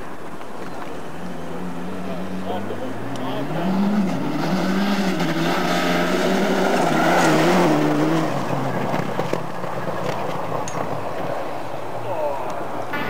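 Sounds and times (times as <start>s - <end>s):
rally car engine at full throttle: 0.1s - 13.0s.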